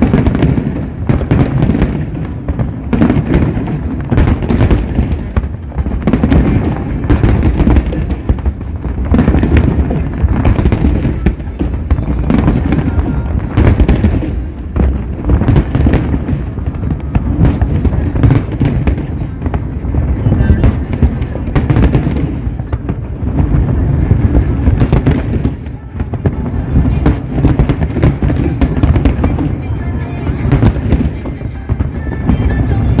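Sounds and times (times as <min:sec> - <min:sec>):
fireworks booming: 0:00.0 - 0:33.0
fireworks cracking and popping: 0:00.0 - 0:33.0.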